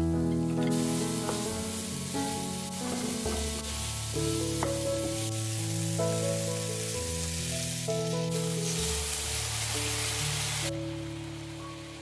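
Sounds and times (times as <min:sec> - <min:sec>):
background music: 0:00.0 - 0:12.0
vegetables sizzling in a pan: 0:00.6 - 0:12.0.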